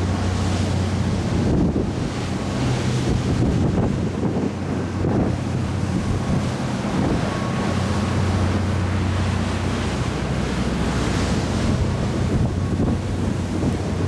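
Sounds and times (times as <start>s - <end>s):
ferry engine drone: 0.0s - 14.0s
rushing water: 0.0s - 14.0s
wind buffeting microphone: 0.0s - 14.0s.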